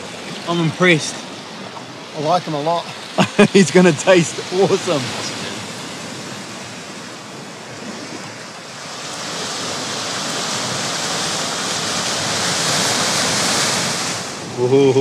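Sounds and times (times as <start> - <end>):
ocean surf rushing over rocks: 0.0 - 15.0.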